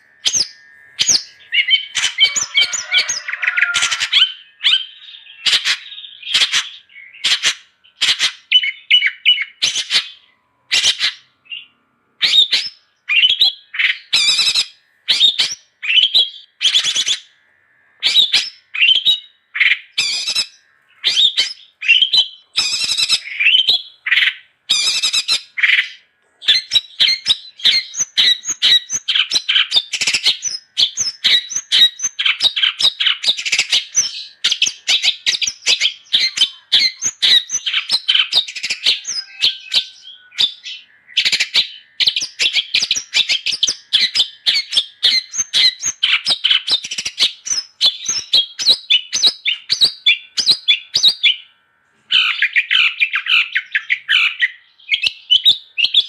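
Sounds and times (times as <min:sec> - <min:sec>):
bird singing sharp notes: 0:00.0 - 0:51.5.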